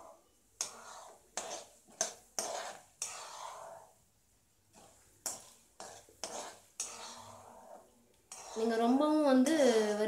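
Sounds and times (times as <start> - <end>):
ladle scraping frying lentils: 0.0 - 10.0.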